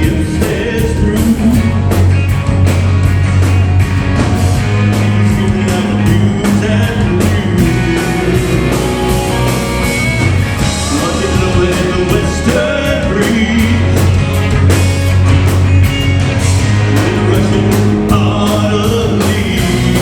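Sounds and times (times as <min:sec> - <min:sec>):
lead voice singing: 0:00.0 - 0:02.8, 0:03.9 - 0:20.0
drums steady beat: 0:00.0 - 0:20.0
rock band playing live: 0:00.0 - 0:20.0.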